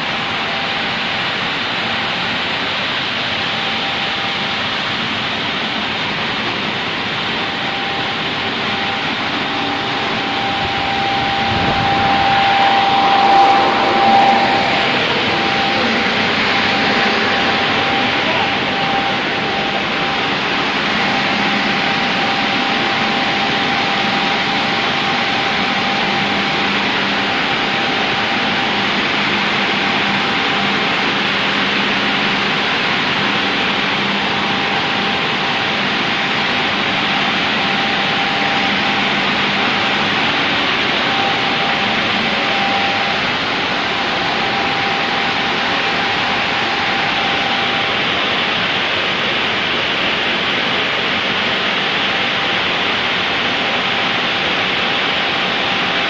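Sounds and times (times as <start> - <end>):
faint steady whine: 0.0 - 56.0
glass washing machine running: 0.0 - 56.0.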